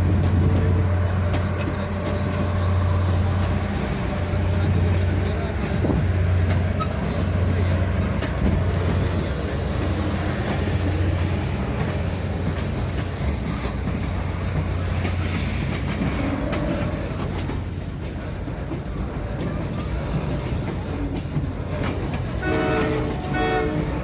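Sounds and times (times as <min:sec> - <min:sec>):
train wheels clicking over rail joints: 0:00.0 - 0:24.0.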